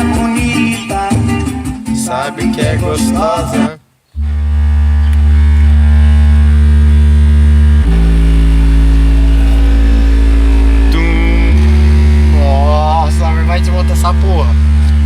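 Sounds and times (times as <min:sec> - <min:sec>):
loud bass notes from car speakers: 0:00.0 - 0:15.0.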